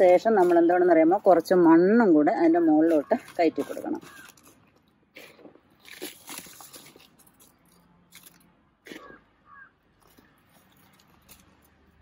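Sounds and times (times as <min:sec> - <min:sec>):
dry soil crunching and rustling: 0:00.0 - 0:12.0.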